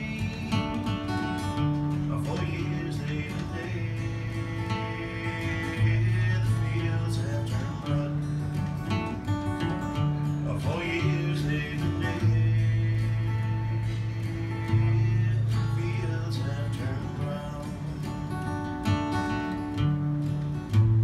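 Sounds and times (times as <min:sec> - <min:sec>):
man singing: 0:00.0 - 0:18.5
strummed acoustic guitar: 0:00.0 - 0:21.0.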